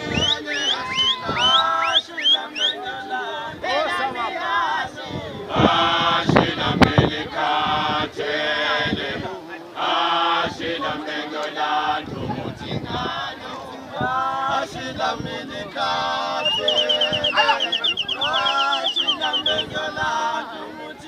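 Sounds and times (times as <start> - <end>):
group of men singing: 0.0 - 21.0.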